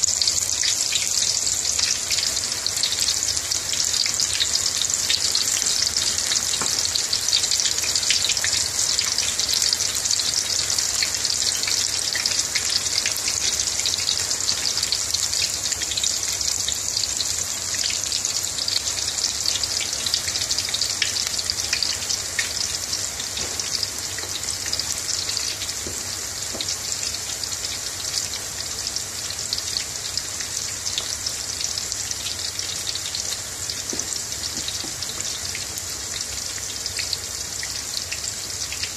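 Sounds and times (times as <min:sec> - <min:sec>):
deep-frying sizzle with pops: 0:00.0 - 0:38.9.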